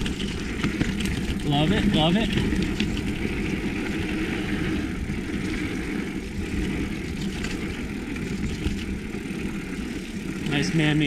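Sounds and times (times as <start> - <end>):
bike rattling and clicking: 0.0 - 11.0
wind and tyres rumbling: 0.0 - 11.0.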